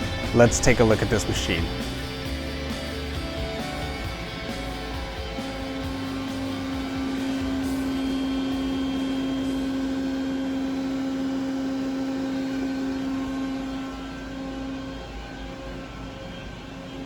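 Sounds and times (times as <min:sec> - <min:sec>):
machine humming with held tone: 0:00.0 - 0:17.0.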